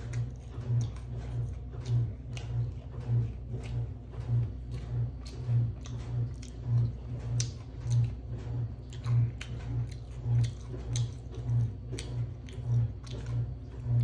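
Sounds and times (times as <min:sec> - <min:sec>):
chewing fried chicken: 0:00.0 - 0:14.0.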